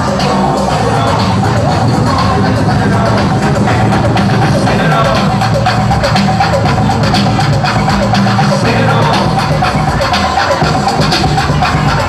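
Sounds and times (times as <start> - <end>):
loud dance music: 0.0 - 12.0
steady drum beat: 0.0 - 12.0.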